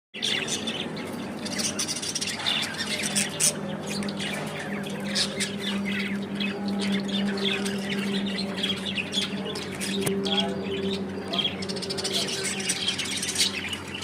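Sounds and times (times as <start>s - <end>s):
budgerigars chattering: 0.2s - 14.0s
steady low hum: 0.2s - 14.0s.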